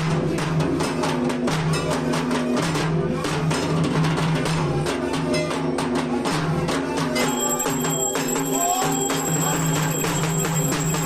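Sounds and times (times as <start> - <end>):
steady drum beats: 0.0 - 11.0.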